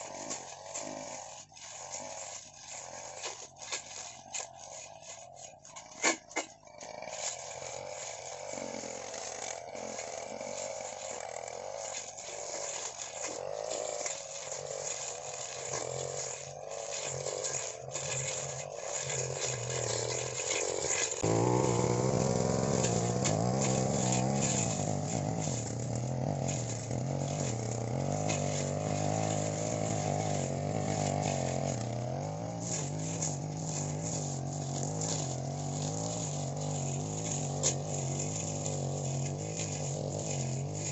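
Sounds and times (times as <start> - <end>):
blade cutting grass: 0.0 - 40.9
brush cutter engine running: 0.0 - 40.9.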